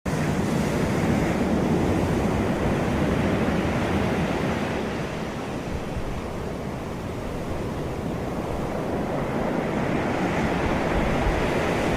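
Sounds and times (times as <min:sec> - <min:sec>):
sea surf washing onto beach: 0:00.1 - 0:11.9.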